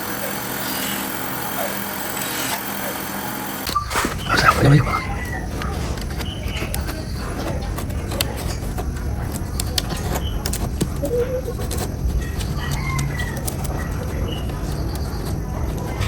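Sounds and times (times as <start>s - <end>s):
birds calling: 0.2s - 16.0s.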